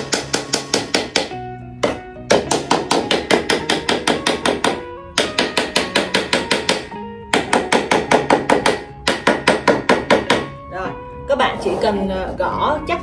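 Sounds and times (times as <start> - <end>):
small hammer tapping wood: 0.0 - 10.5
background guitar music: 0.0 - 13.0.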